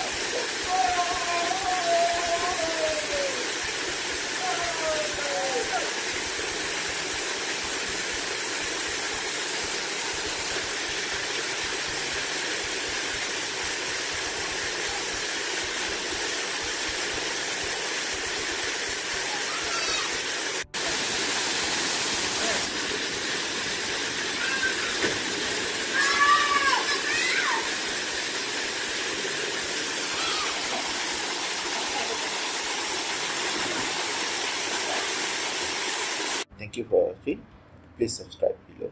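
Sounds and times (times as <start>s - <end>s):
waterfall rushing over rocks: 0.0s - 36.5s.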